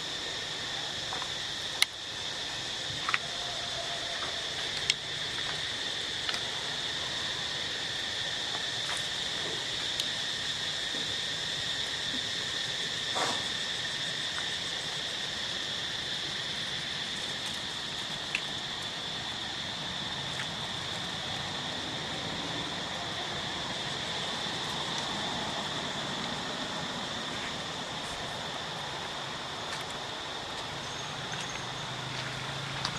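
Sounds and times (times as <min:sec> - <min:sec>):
high-pitched insect drone: 0:00.0 - 0:32.9.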